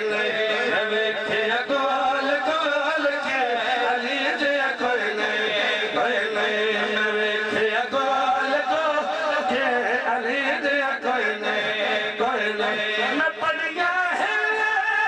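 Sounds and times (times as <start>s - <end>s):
man chanting over loudspeaker: 0.0s - 15.0s.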